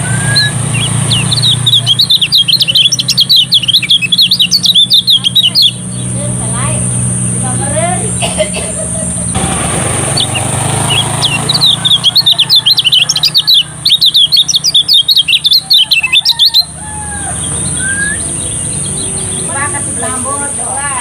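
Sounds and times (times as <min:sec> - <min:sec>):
soft bird calls: 0:00.0 - 0:07.4, 0:10.0 - 0:20.6
bird fast twittering: 0:00.0 - 0:07.9, 0:10.0 - 0:21.0.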